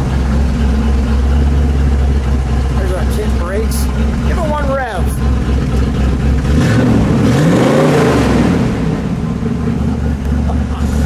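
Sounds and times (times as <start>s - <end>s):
car engine revving from idle: 0.0s - 11.0s.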